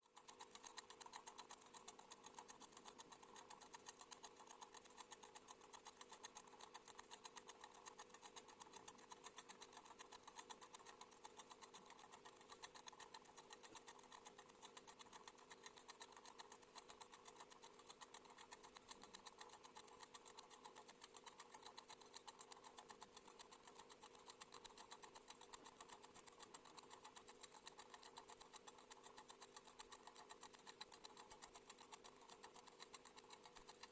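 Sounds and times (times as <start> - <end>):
mechanical kitchen timer ticking: 0.0 - 33.9.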